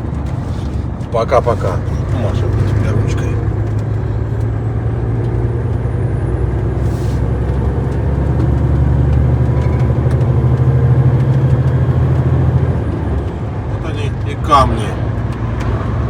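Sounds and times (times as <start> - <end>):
lorry diesel engine droning: 0.0 - 16.0.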